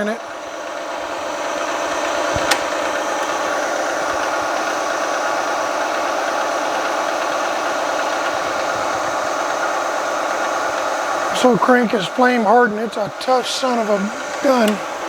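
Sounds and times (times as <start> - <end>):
milling machine drilling steel: 0.0 - 15.0.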